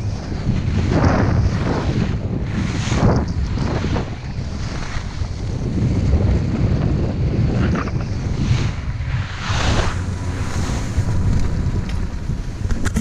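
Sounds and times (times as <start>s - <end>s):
skis scraping snow: 0.0s - 13.0s
wind buffeting microphone: 0.0s - 13.0s.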